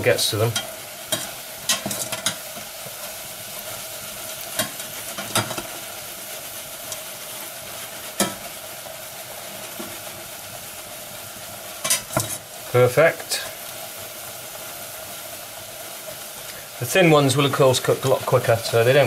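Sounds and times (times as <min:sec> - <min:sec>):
chips sizzling in hot oil: 0:00.0 - 0:19.0.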